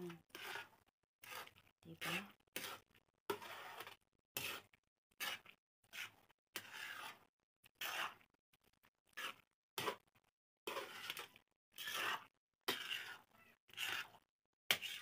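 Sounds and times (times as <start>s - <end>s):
utensil scraping a bowl: 0.0s - 15.0s.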